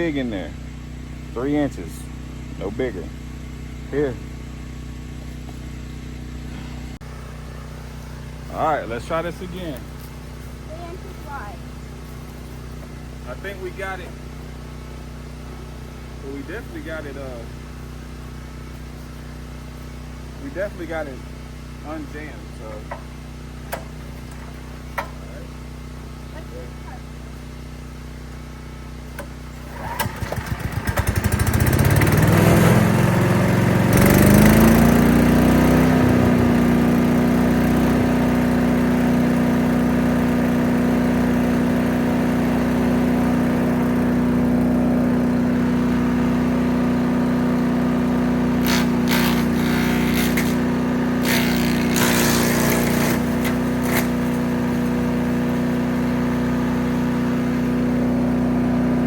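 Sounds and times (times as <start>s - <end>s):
wood chipper engine starting up: 0.0s - 59.0s.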